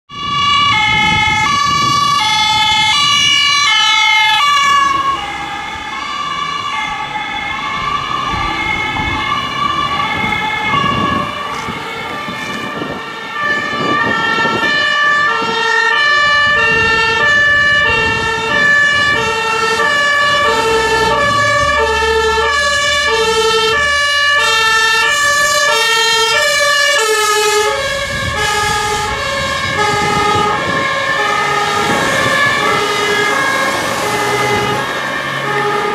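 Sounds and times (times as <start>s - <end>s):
two-tone emergency sirens: 0.1s - 35.9s.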